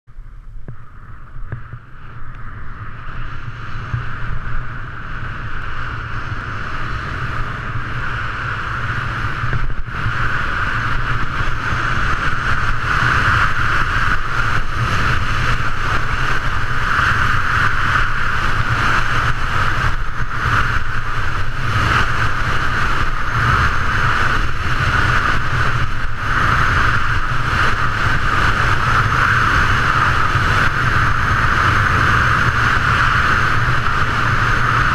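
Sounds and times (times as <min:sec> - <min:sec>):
wind rushing over microphone: 0:00.1 - 0:34.9.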